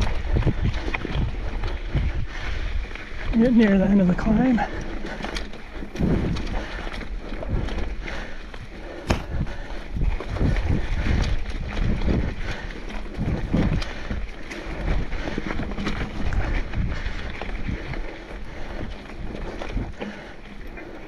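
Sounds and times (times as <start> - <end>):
bike clicks and rattles: 0.0 - 21.0
bike tyre noise: 0.0 - 21.0
wind buffeting microphone: 0.0 - 21.0.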